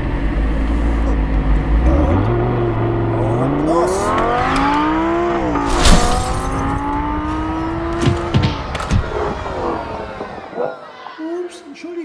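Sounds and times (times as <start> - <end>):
sports car engine revving: 0.0 - 10.2.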